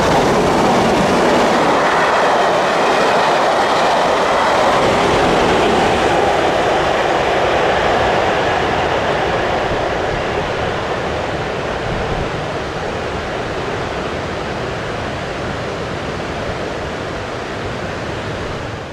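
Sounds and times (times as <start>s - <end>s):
steady rushing noise: 0.0s - 18.9s
train rumble: 0.0s - 18.9s.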